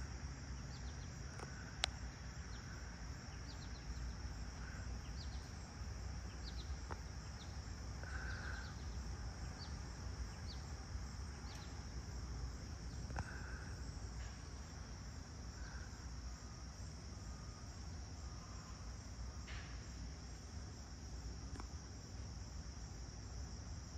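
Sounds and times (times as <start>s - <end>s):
crickets chirping: 0.0s - 23.9s.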